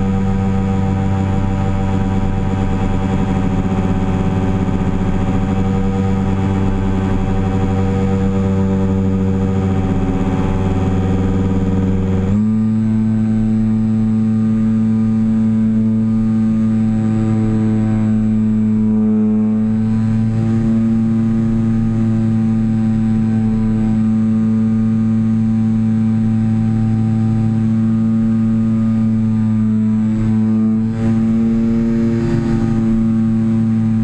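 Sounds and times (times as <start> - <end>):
model plane propeller droning whine: 0.0 - 34.0.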